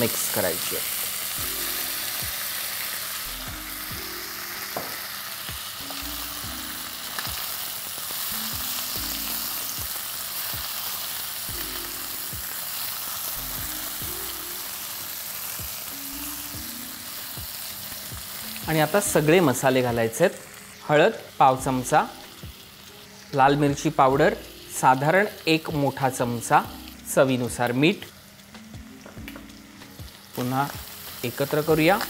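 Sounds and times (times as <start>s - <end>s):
squid sizzling in hot oil: 0.0s - 32.0s.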